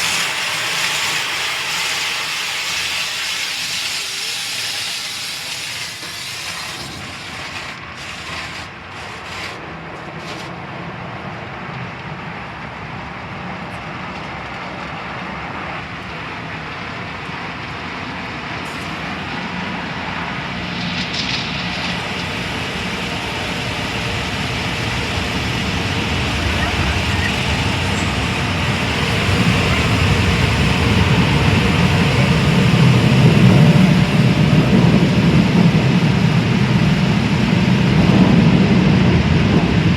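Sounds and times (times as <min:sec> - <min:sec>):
car wash spraying water: 0:00.0 - 0:39.9.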